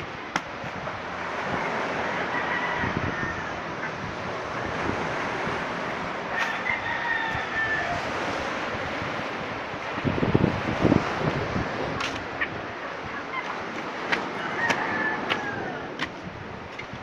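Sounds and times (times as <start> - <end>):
sea surf: 0.0 - 17.0
wind: 0.0 - 17.0
wind buffeting microphone: 0.0 - 17.0.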